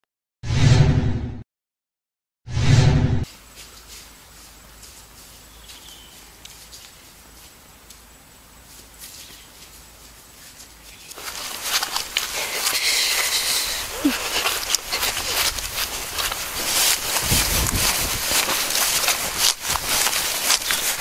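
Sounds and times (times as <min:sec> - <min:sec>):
faint rustling through grass: 0:03.3 - 0:21.0.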